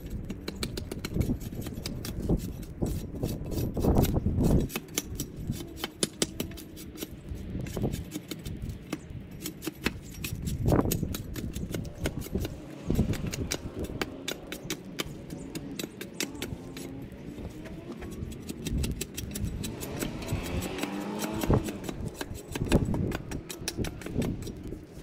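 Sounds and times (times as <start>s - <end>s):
drawknife scraping bark: 0.0s - 25.0s
sharp clicks: 4.0s - 17.1s, 17.9s - 24.9s.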